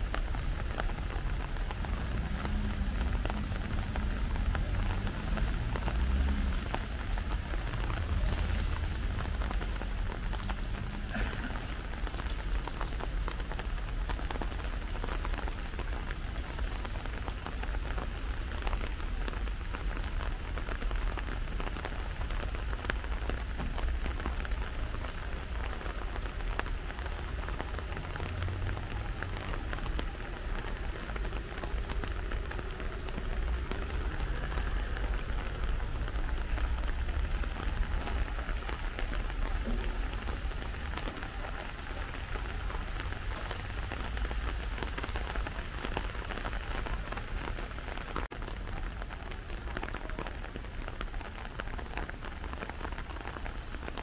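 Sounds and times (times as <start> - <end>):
rain falling: 0.0 - 54.0
raindrops ticking: 0.0 - 54.0.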